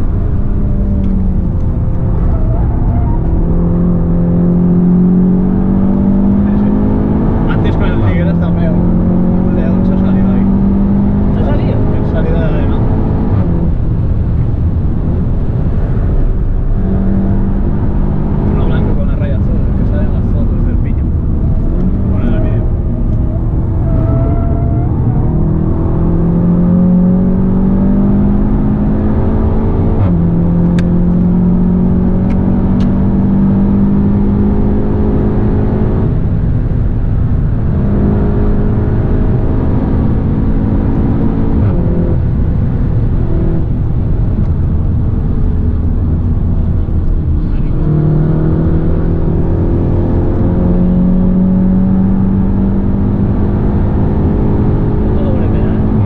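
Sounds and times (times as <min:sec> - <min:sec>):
car engine under hard acceleration: 0:00.0 - 0:56.0
tyre and road noise: 0:00.0 - 0:56.0.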